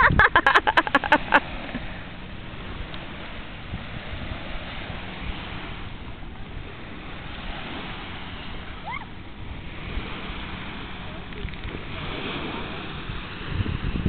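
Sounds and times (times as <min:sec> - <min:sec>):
small waves on sandy shore: 0:00.0 - 0:14.0
wind buffeting microphone: 0:00.0 - 0:14.0.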